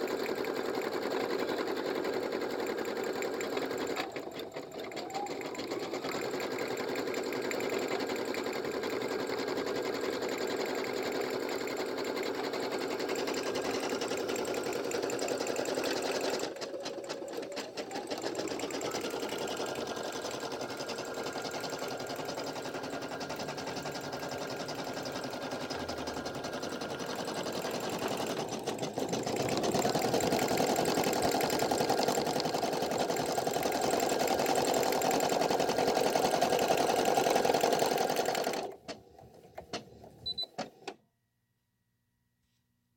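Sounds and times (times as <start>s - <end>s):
embroidery machine stitching: 0.0s - 40.1s.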